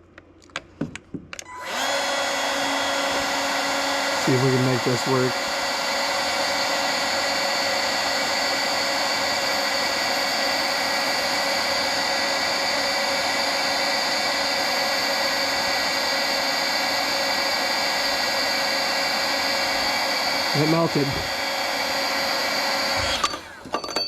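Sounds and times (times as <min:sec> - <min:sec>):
heat gun blowing hot air: 0:01.5 - 0:23.7.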